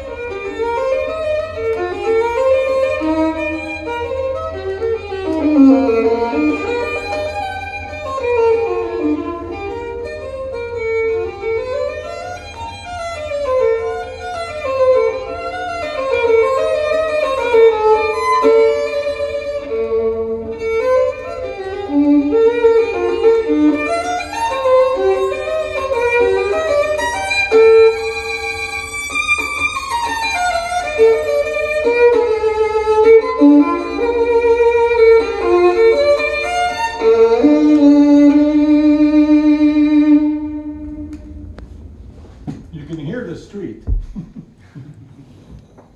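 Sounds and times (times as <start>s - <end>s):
violin music over loudspeakers: 0.0s - 43.2s.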